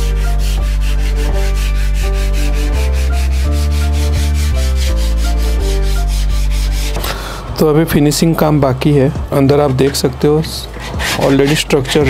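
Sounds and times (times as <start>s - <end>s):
steady bass line: 0.0s - 12.0s.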